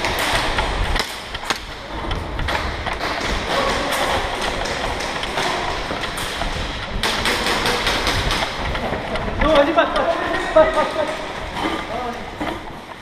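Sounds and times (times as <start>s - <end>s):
noisy hall background: 0.0s - 13.0s.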